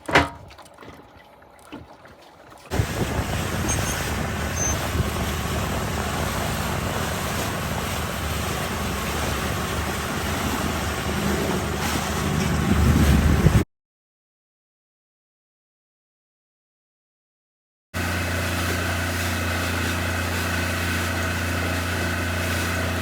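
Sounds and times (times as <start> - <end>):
boat engine rumble: 0.0 - 13.6, 18.0 - 23.0
water noise: 0.0 - 13.6, 18.0 - 23.0
wind: 0.0 - 13.6, 18.0 - 23.0.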